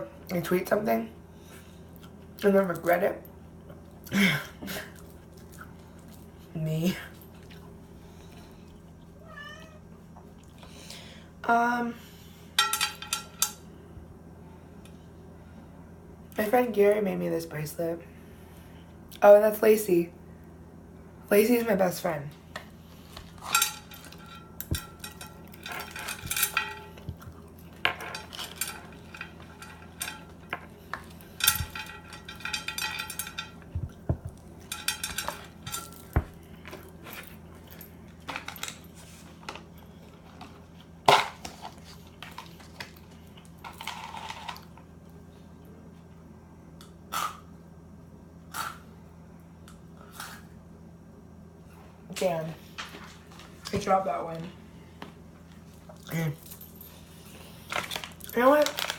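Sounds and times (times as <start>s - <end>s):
faint low hum: 0.0s - 58.9s.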